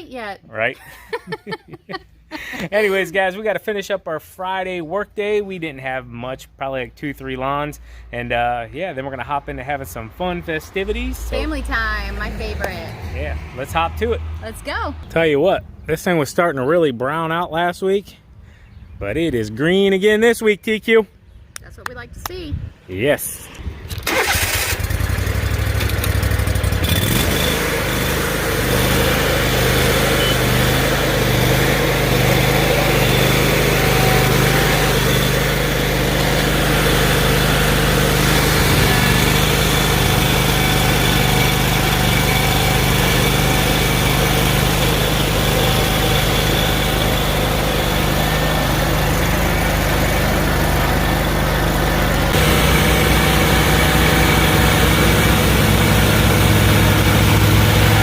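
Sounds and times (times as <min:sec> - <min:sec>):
riding lawn mower engine: 0:00.5 - 0:14.2, 0:23.2 - 0:58.0.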